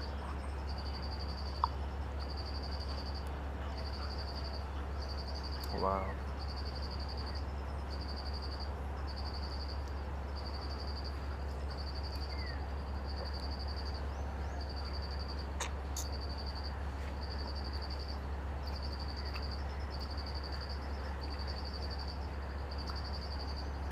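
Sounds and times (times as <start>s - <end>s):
insect chirping: 0.0s - 23.9s
low hum and hiss: 0.0s - 23.9s.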